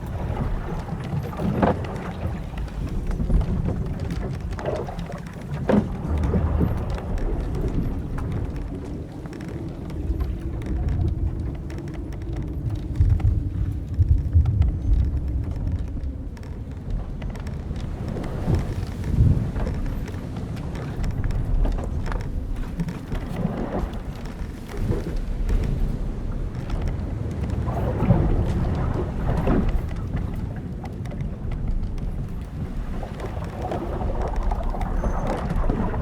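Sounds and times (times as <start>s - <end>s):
timber and rope creaking: 0.0s - 36.0s
wind and waves rumbling: 0.0s - 36.0s.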